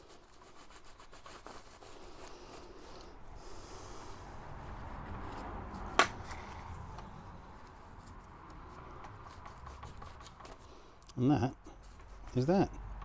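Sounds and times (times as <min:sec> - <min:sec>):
rubbing and handling small parts: 0:00.0 - 0:11.0, 0:11.7 - 0:13.0.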